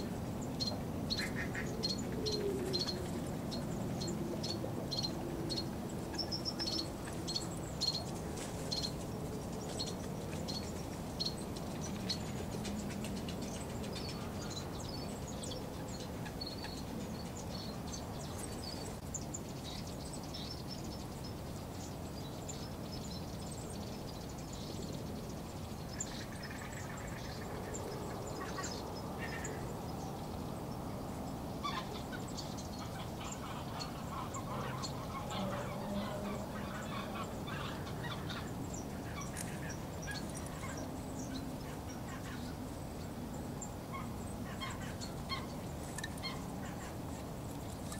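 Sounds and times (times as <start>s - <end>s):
birds chirping: 0.0s - 47.9s
low background noise: 0.0s - 47.9s.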